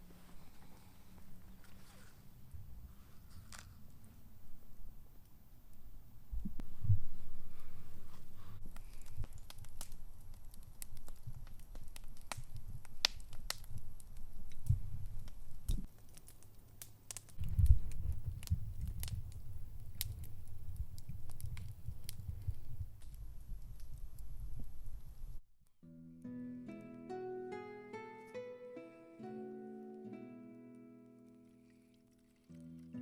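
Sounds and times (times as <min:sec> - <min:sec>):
campfire crackling: 0:00.0 - 0:25.4, 0:29.3 - 0:33.0.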